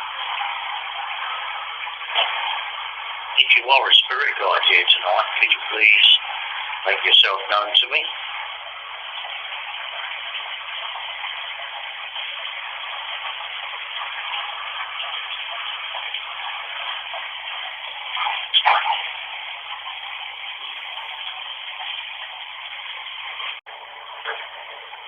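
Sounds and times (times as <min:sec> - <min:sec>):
bath taps running: 0:00.0 - 0:25.0.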